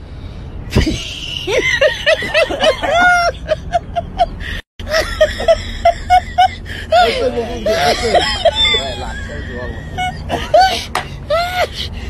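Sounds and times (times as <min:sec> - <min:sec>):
people laughing hard: 0:00.7 - 0:11.7.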